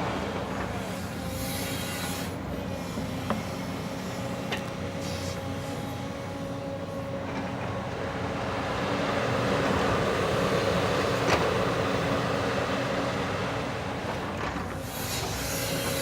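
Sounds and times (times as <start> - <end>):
excavator diesel engine running: 2.4 - 16.0.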